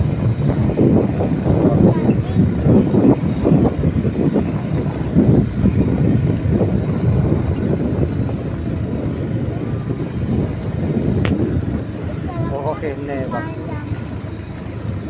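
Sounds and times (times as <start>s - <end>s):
vehicle rumbling on dirt road: 0.0s - 15.0s
wind buffeting microphone: 0.0s - 15.0s.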